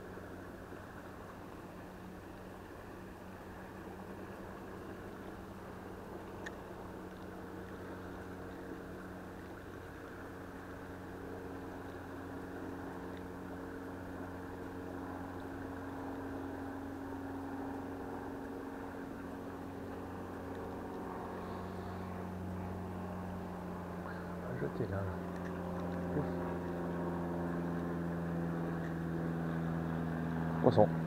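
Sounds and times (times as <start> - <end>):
low droning tones: 0.0 - 31.0.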